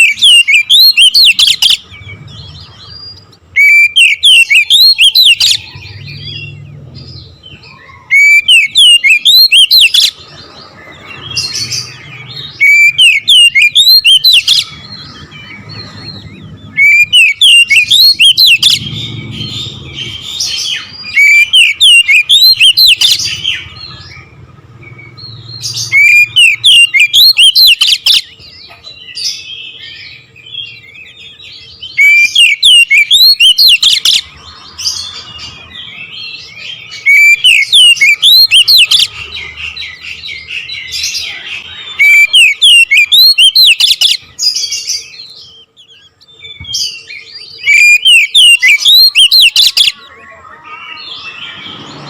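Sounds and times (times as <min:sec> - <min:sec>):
soft bird twittering: 0:00.0 - 0:52.0.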